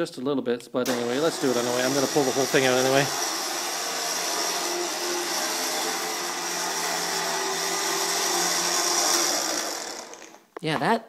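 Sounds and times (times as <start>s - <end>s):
electric winch whining: 0.9s - 10.4s.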